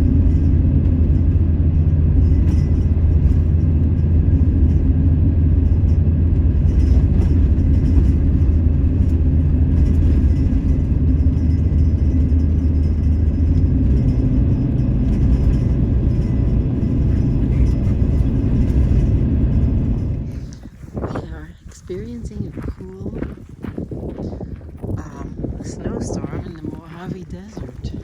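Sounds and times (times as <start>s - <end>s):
van engine and road drone: 0.0s - 28.0s.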